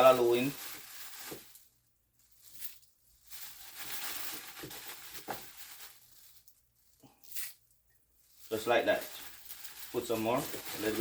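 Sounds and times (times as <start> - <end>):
soft rustling: 0.0 - 11.0.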